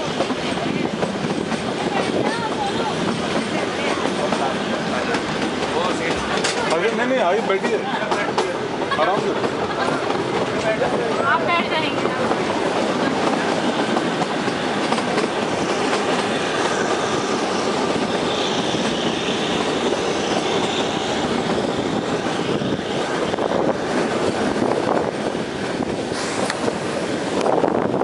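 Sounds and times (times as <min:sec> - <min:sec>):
train wheels rumbling and clattering: 0:00.0 - 0:28.0.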